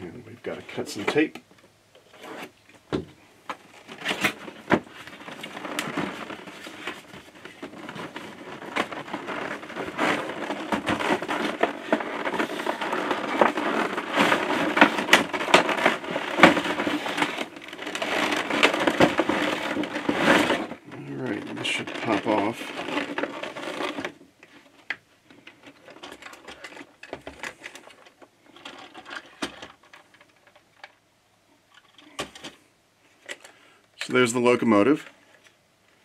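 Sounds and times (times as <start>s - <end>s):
plastic tray crackling: 2.1s - 31.0s.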